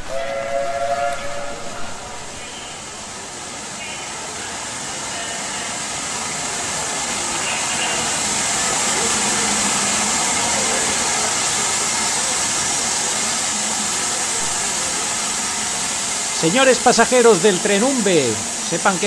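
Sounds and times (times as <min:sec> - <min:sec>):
steam train hiss and rumble: 0:00.0 - 0:19.0.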